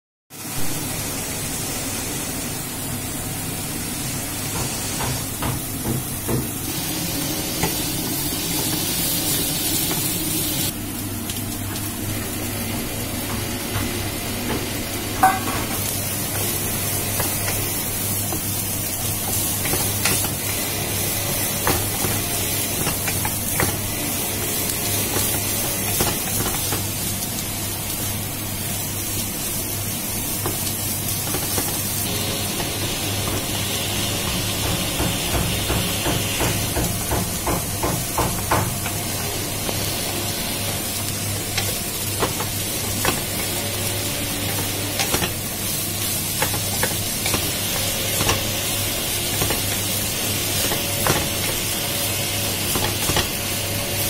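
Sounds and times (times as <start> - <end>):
vegetables sizzling in a wok: 0.3 - 54.0.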